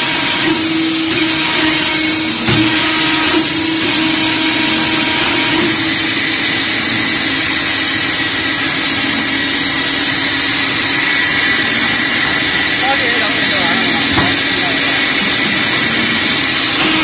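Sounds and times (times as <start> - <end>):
riveting machine humming and hissing: 0.0 - 17.0.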